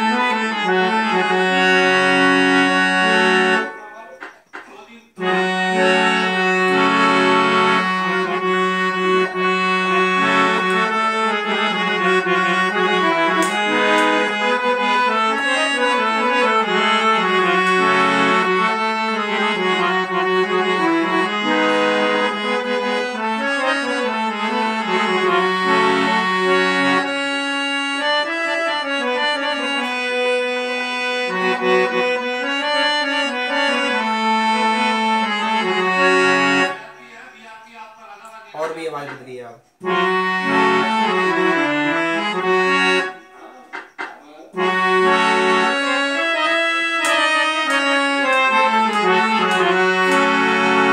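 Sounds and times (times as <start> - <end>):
harmonium melody: 0.0 - 37.5, 38.5 - 43.9, 44.5 - 50.9.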